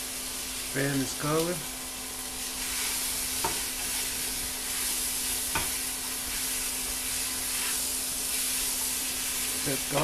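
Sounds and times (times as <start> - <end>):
onions frying in hot oil: 0.0 - 10.0.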